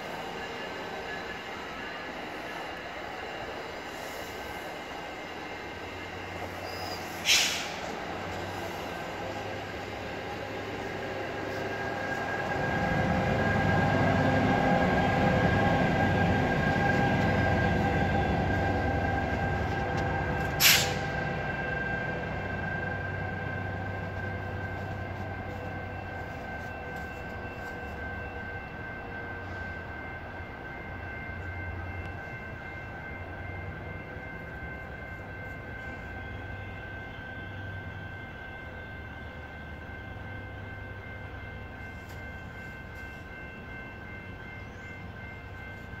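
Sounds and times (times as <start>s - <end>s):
diesel train rumble: 0.0s - 46.0s
steady high-pitched whine: 0.0s - 46.0s.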